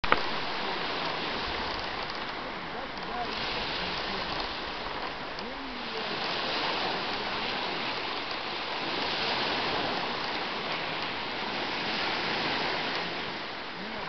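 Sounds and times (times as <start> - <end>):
small waves breaking on shore: 0.0 - 14.0
wind: 0.0 - 14.0.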